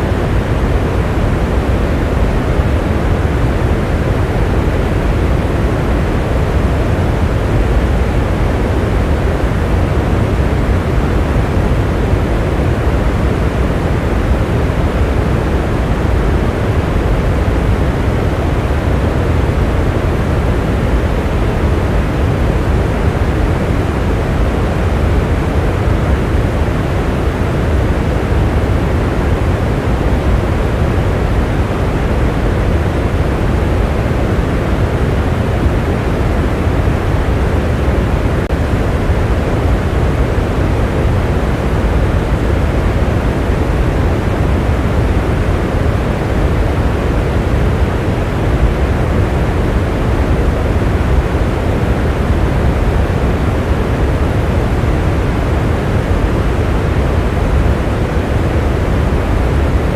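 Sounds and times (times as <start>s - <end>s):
steady heavy rain: 0.0s - 59.9s.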